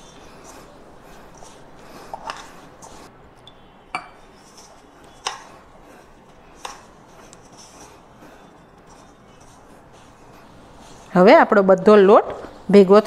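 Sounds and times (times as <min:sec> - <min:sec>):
dough rustling: 0:00.0 - 0:03.1, 0:04.2 - 0:13.0.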